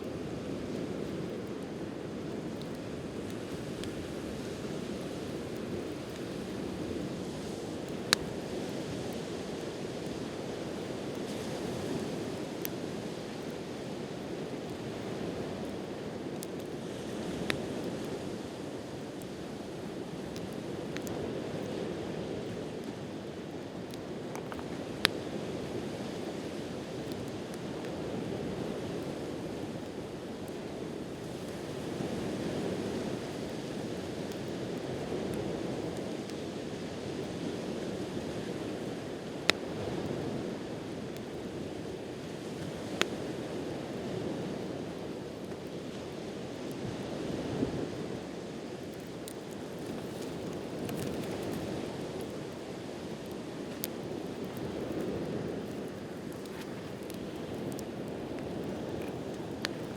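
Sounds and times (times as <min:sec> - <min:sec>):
campfire pops and crackles: 0:00.0 - 0:59.9
sea waves washing on shore: 0:00.0 - 0:59.9.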